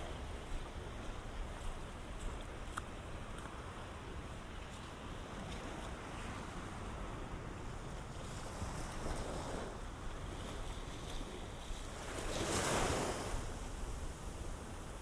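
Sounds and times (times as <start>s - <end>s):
ocean waves washing ashore: 0.0s - 15.0s.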